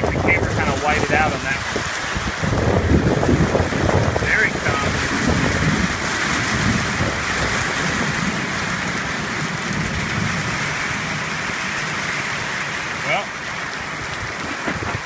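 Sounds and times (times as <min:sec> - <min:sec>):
heavy rain pouring: 0:00.0 - 0:15.0
low thunder rumble: 0:00.0 - 0:15.0.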